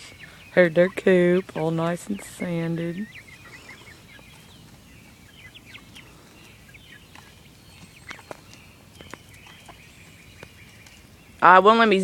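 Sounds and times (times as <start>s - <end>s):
chickens pecking: 0.0s - 12.0s.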